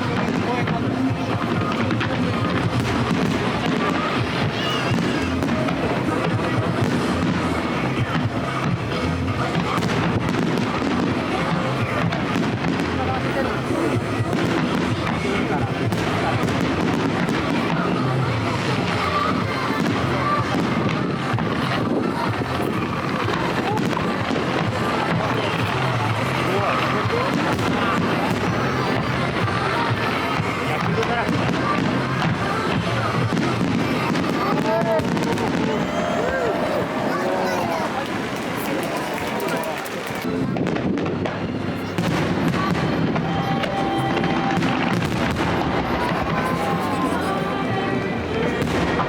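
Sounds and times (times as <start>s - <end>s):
fireworks crackling and popping: 0.0s - 49.0s
music playing: 0.0s - 49.0s.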